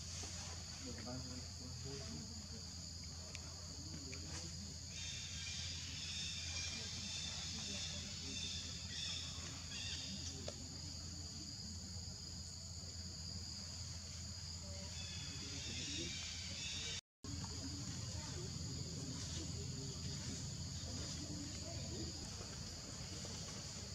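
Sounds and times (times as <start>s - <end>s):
chorus of forest insects: 0.0s - 23.9s
insect chirping: 0.0s - 23.9s.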